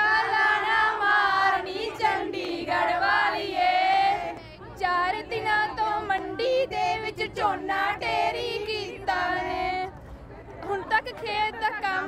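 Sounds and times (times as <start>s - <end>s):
woman singing unaccompanied: 0.0s - 9.9s, 10.6s - 12.0s.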